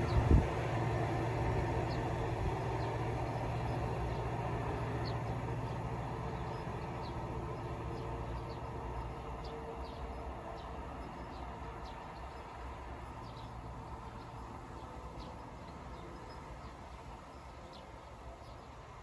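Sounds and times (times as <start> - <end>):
locomotive diesel engine droning: 0.0 - 19.0.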